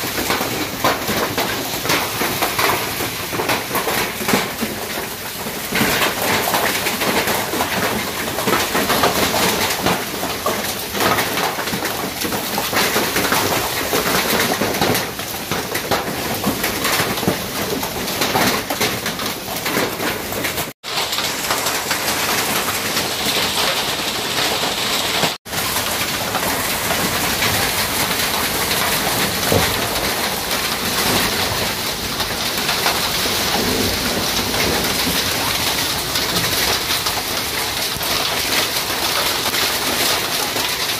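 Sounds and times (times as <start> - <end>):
rain and hail on tin roofs: 0.0 - 40.9.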